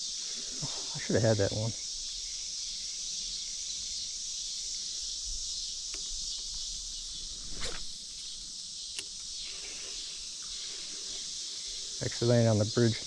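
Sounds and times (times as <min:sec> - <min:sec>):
insect chorus: 0:00.0 - 0:13.0
rustle: 0:00.0 - 0:13.0.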